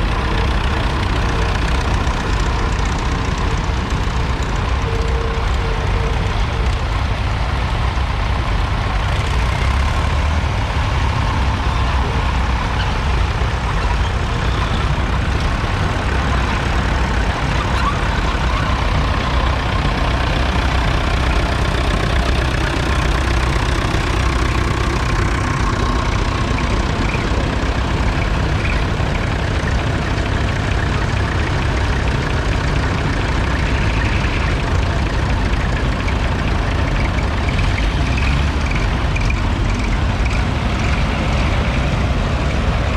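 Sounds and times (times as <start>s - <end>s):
tractor engines running: 0.0s - 42.9s.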